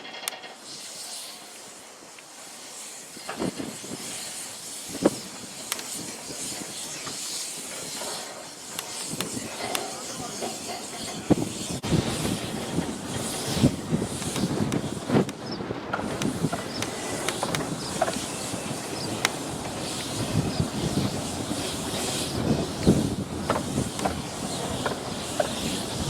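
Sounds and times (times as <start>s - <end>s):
steam locomotive hissing steam: 0.0s - 26.0s.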